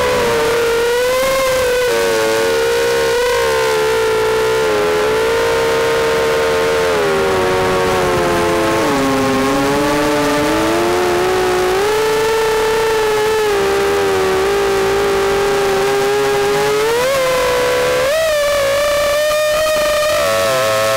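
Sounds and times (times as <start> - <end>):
quadcopter motors whining: 0.0 - 20.9.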